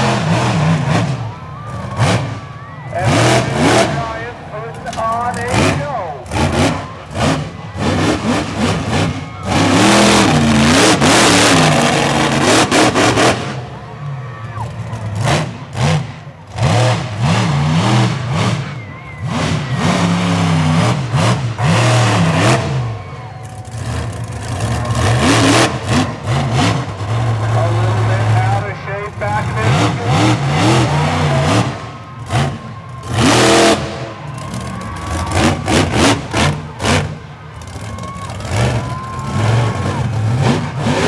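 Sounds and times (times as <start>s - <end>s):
truck engine revving hard: 0.0s - 41.0s.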